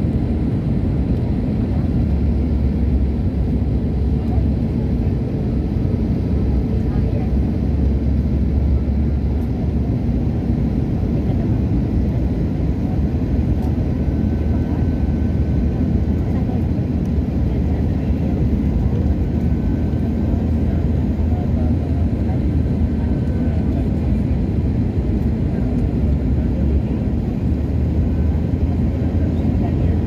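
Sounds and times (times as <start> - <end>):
airliner engines rumbling: 0.0 - 30.0.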